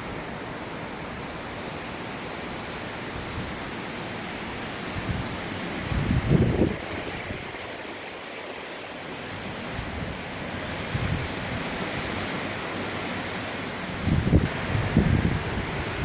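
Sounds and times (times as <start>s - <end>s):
gusts buffeting microphone: 0.0s - 8.1s, 9.3s - 16.0s
hurricane wind rushing: 0.0s - 16.0s.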